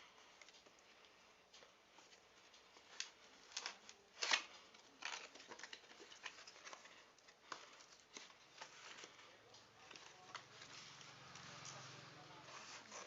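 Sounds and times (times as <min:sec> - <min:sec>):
packaging rustling and crackling: 0:00.0 - 0:13.0.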